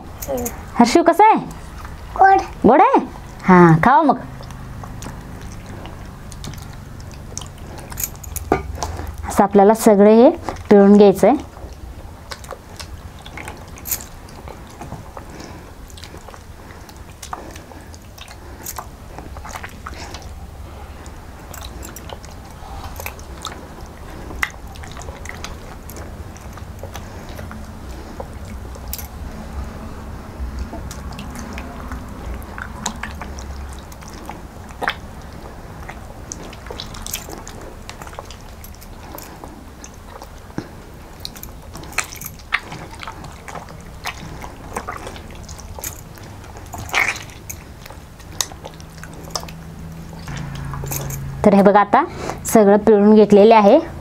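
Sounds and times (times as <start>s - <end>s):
children chewing: 0.0s - 52.6s
wet squelching of mango pulp: 4.3s - 10.8s, 11.4s - 51.4s.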